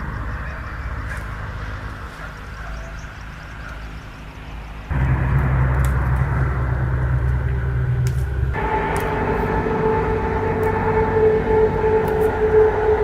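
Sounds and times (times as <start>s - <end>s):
engine running low: 0.0s - 13.0s.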